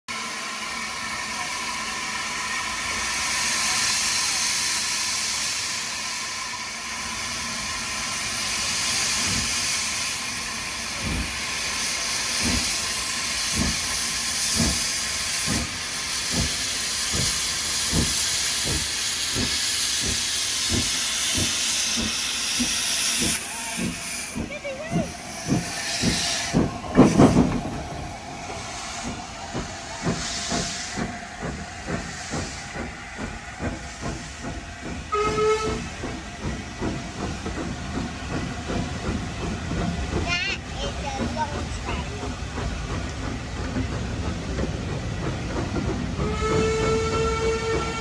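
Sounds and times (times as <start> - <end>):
steam hissing: 0.1 - 48.0
steam locomotive exhaust chuffs: 0.1 - 48.0.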